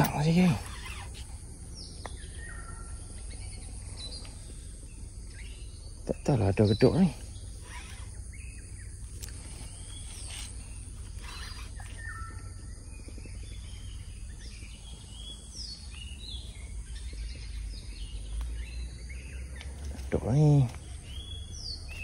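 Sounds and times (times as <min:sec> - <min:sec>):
birds chirping and whistling: 0:00.0 - 0:22.0
low outdoor rumble: 0:00.0 - 0:22.0.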